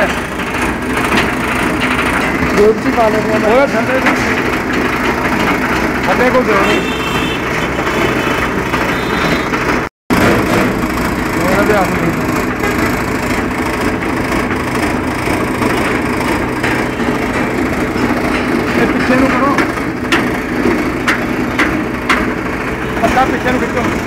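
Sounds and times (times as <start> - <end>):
straw blower running: 0.0 - 24.0.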